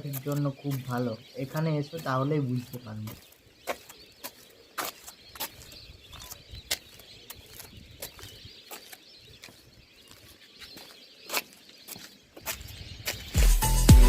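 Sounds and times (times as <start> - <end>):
small birds chirping and ticking: 0.0 - 13.8.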